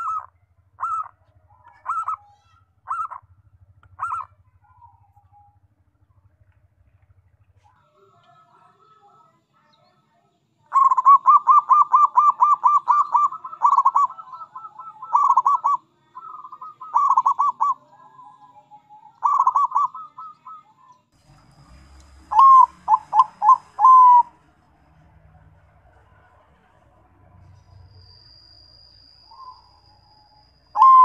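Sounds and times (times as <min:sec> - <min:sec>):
doves cooing: 0:00.0 - 0:08.1, 0:10.7 - 0:20.8, 0:21.6 - 0:27.9, 0:29.2 - 0:31.0.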